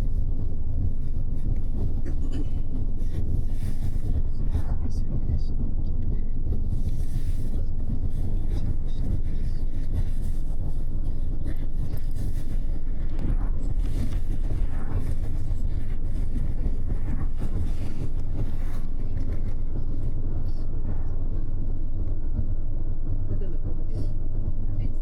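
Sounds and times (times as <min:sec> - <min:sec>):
bus engine and road drone: 0:00.0 - 0:25.0
faint ticks and rattles: 0:00.0 - 0:25.0.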